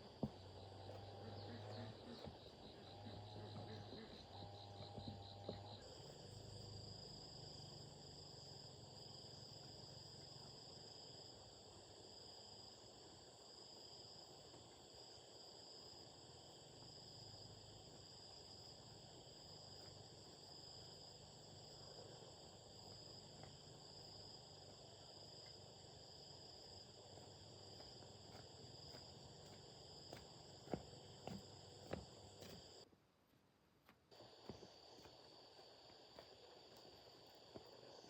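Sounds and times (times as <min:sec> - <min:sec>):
insects chirring: 0:00.0 - 0:32.9, 0:34.1 - 0:38.0
faint low hum: 0:00.0 - 0:38.0.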